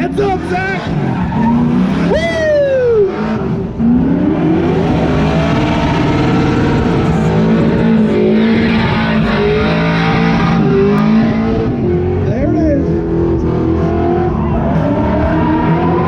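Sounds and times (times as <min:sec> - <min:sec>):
engine at high revs: 0:00.0 - 0:02.4, 0:03.0 - 0:16.0.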